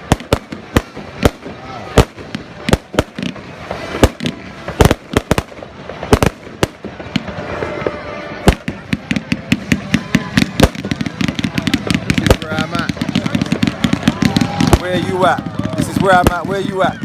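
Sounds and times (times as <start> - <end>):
fireworks crackling pops: 0.0 - 17.0.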